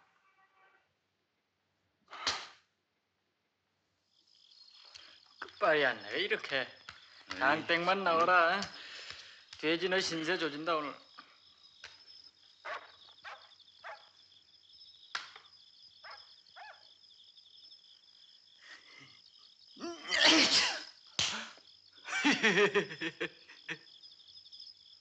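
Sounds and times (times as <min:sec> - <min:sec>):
crickets chirping: 0:03.6 - 0:25.0.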